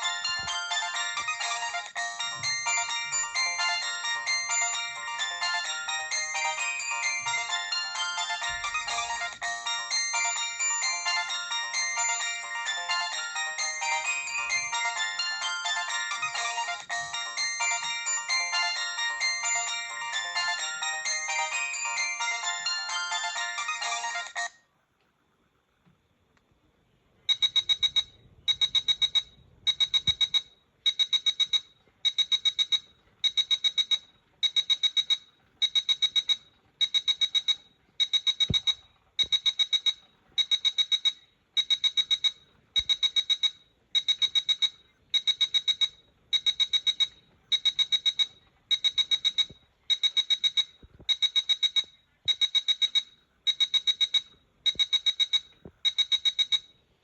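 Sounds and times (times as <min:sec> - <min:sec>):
phone beeping alert tone: 0:00.0 - 0:24.6, 0:27.3 - 0:56.7.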